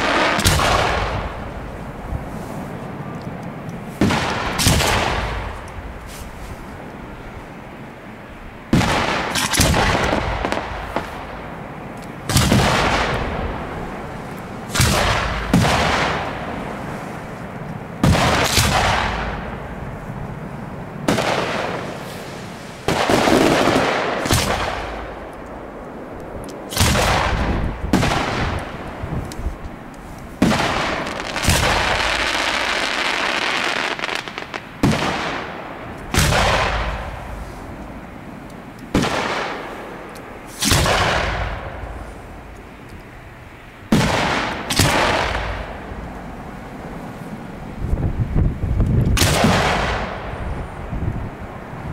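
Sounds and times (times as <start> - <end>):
fireworks booming bangs: 0.0 - 3.1, 3.8 - 7.2, 8.6 - 42.5, 43.8 - 46.4, 49.1 - 50.8.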